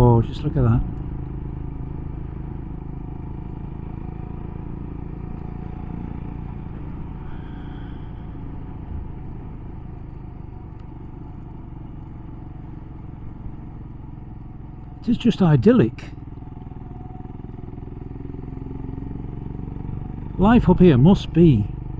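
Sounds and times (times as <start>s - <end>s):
motorcycle engine running: 0.0s - 21.9s
road and wind noise: 0.0s - 21.9s.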